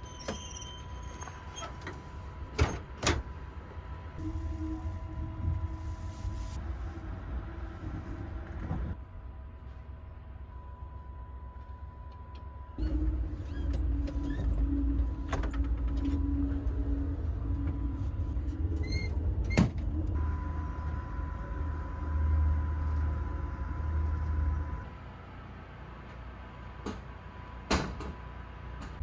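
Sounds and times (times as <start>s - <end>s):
train car rumble: 0.0s - 29.0s.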